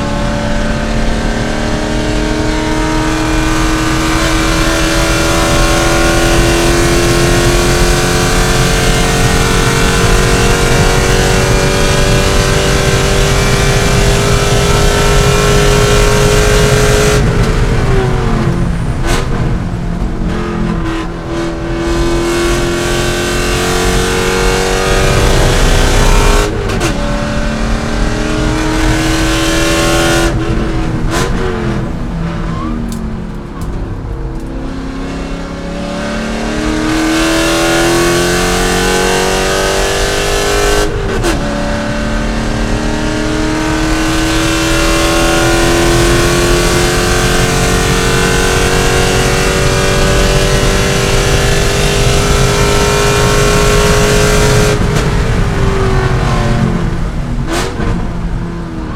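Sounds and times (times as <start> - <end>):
car engine accelerating hard: 0.0 - 58.9.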